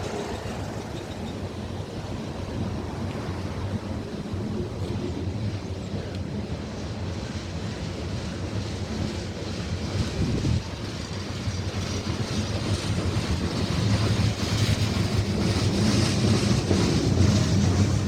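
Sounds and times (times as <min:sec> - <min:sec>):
diesel locomotive rumble: 0:00.0 - 0:18.0
rail and wheel hiss: 0:00.0 - 0:18.0.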